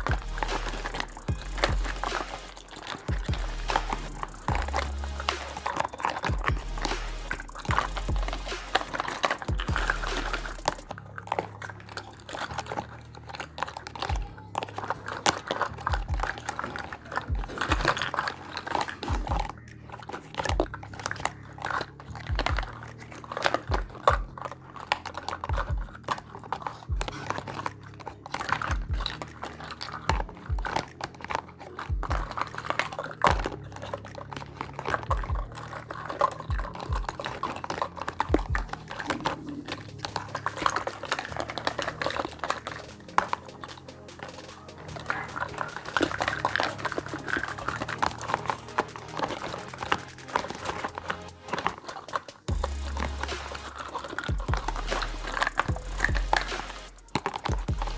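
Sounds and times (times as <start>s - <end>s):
toy kitchen pieces clicking: 0.0s - 57.8s.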